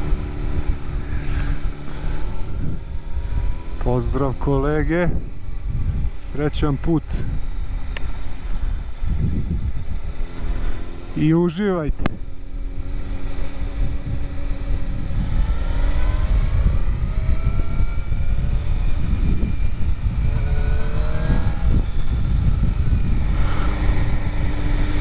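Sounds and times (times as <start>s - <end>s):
motorcycle engine accelerating: 0.0s - 25.0s
wind noise: 0.0s - 25.0s.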